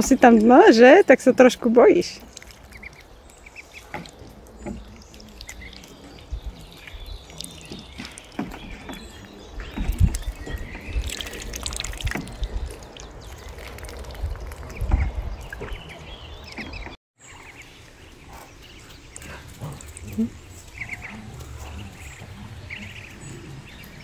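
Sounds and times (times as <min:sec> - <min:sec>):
ducks splashing in water: 0:02.0 - 0:24.0.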